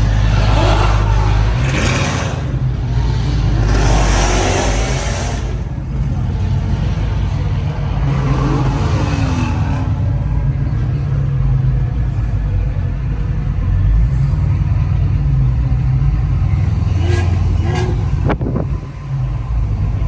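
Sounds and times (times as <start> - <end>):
car engines exhaust rumble: 0.0 - 20.0.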